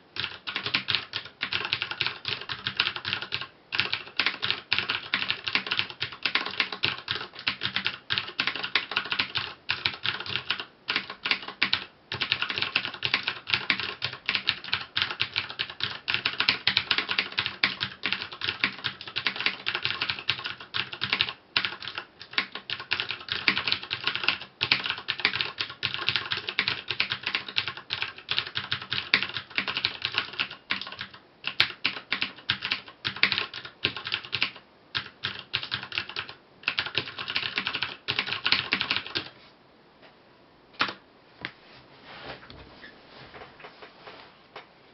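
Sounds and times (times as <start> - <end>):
fast typing on clicky keyboard: 0.2 - 39.3.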